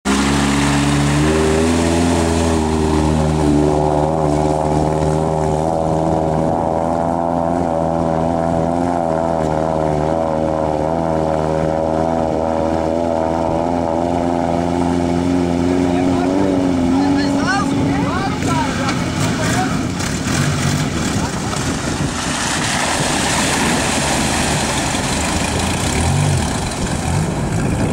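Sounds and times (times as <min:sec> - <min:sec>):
car engine running: 0:00.0 - 0:27.9
water splashing around wheels: 0:00.0 - 0:27.9.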